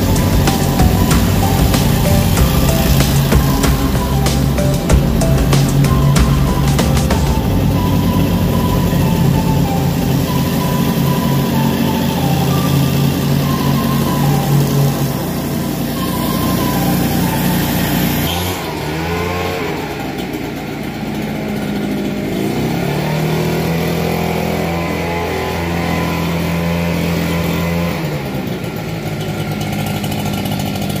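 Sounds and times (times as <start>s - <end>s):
mower engine running: 0.0s - 31.0s.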